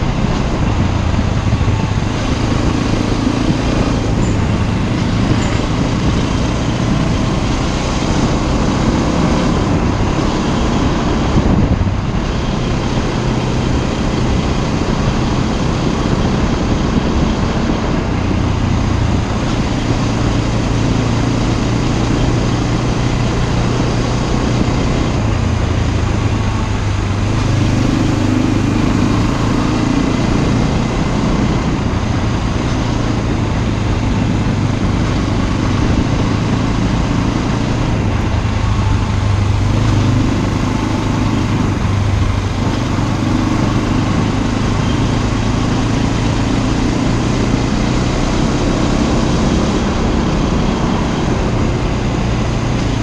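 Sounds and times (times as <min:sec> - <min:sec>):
motorcycle engine running: 0:00.0 - 0:53.0
road and wind noise: 0:00.0 - 0:53.0.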